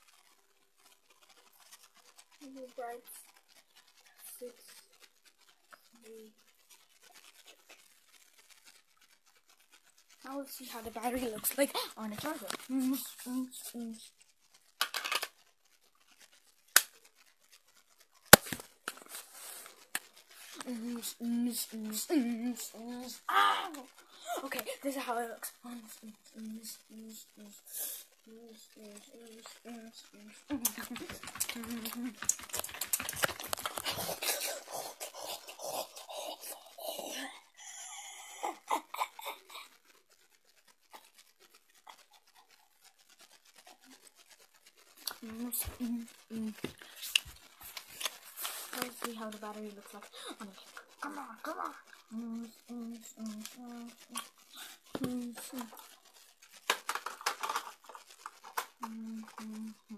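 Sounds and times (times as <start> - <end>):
faint rapid ticking: 0.0 - 59.9
fingers rubbing on recorder: 0.0 - 59.9.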